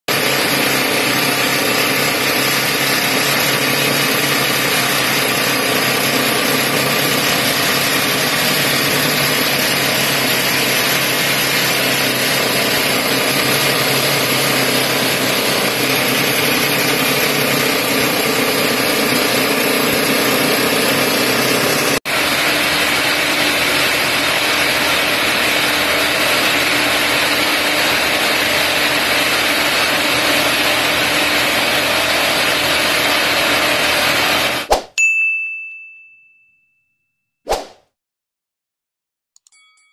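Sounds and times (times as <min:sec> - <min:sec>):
drill rig mechanical din: 0:00.1 - 0:34.7.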